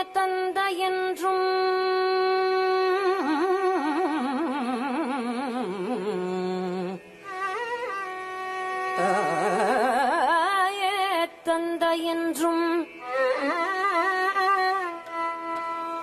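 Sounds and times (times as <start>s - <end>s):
woman singing ornamented notes: 0.0s - 8.0s, 8.9s - 15.4s.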